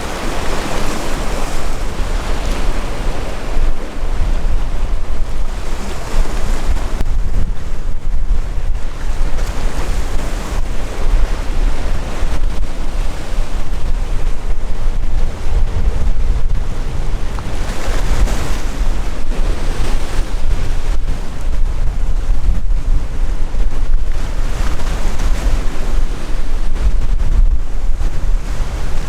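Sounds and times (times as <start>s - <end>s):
sea waves breaking: 0.0s - 29.0s
wind buffeting microphone: 0.0s - 29.0s.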